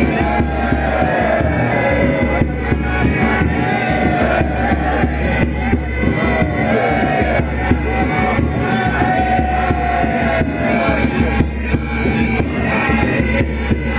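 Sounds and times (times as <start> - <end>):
low bass and beat: 0.0 - 13.9.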